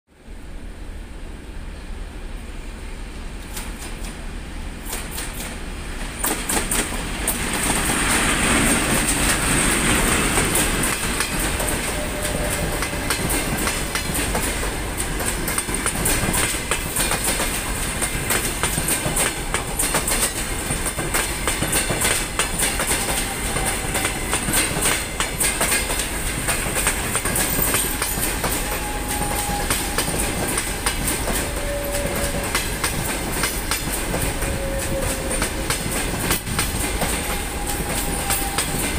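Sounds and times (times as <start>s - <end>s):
diesel locomotive passing: 0.2s - 38.9s
wheels clicking over rail joints: 4.8s - 38.9s.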